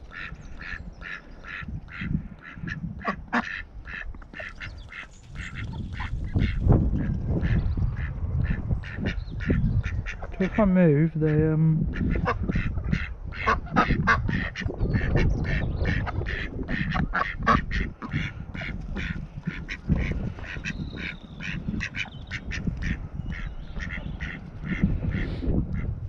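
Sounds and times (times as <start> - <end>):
ducks quacking: 0.0 - 26.0
wind rumble on microphone: 0.0 - 26.0.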